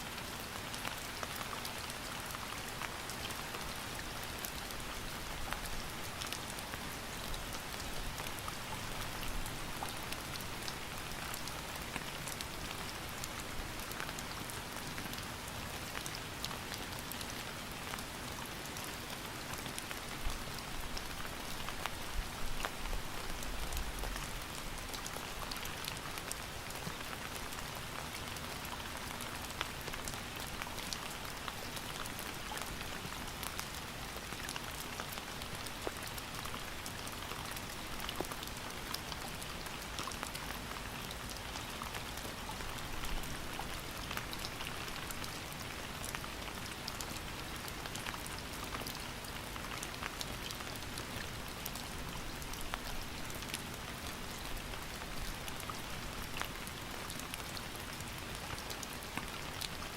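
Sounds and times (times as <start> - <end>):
rain drops ticking on a surface: 0.0 - 59.9
rain hiss: 0.1 - 59.9.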